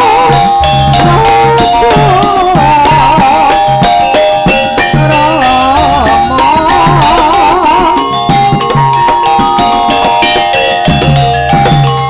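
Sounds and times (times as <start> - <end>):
hand drum strokes: 0.0 - 12.0
wavering melody with held notes: 0.0 - 12.0.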